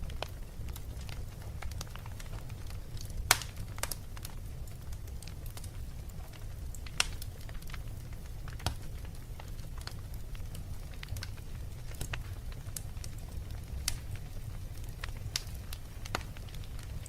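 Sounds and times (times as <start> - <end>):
fire crackling: 0.0 - 17.0
fire pops: 0.0 - 17.0.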